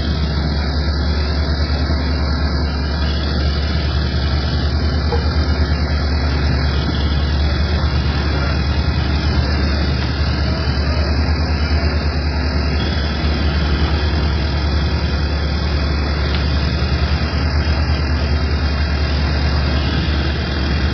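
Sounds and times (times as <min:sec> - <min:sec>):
engine running steadily: 0:00.0 - 0:20.9.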